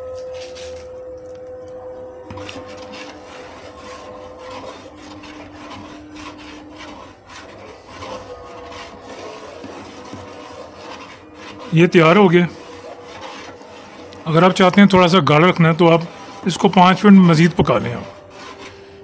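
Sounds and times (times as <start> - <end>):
spoon stirring and scraping a pot: 0.0 - 19.0.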